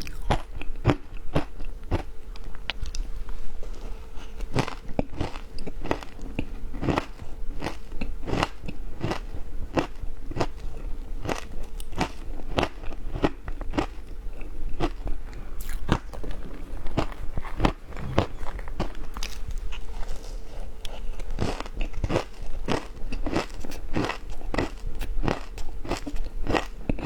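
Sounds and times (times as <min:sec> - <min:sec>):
faint hum: 0:00.0 - 0:12.4, 0:13.0 - 0:23.2.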